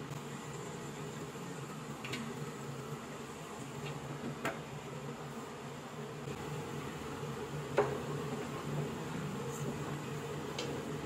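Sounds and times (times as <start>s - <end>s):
food simmering in a wok: 0.0s - 11.0s
steady hum and hiss: 0.0s - 11.0s.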